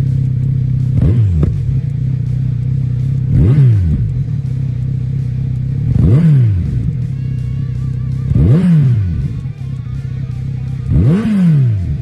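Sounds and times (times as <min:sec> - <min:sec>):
motorcycle engine idling: 0:00.0 - 0:12.0
motorcycle throttle blips: 0:00.0 - 0:12.0.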